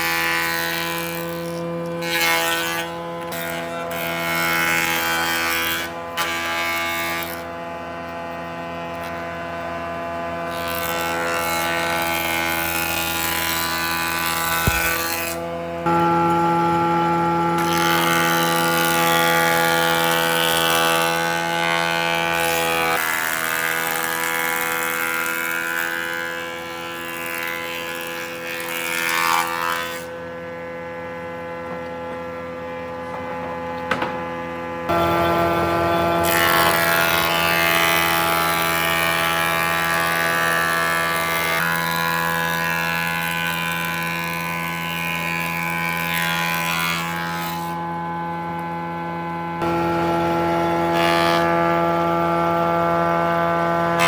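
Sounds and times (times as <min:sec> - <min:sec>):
noisy cutting: 0:00.0 - 0:54.0
power tool motor running: 0:00.0 - 0:54.0.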